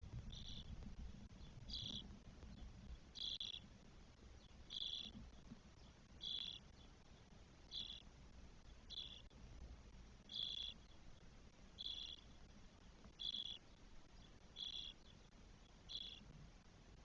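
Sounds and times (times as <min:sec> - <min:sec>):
nestlings calling: 0:00.2 - 0:09.4, 0:10.2 - 0:11.2, 0:11.8 - 0:16.3.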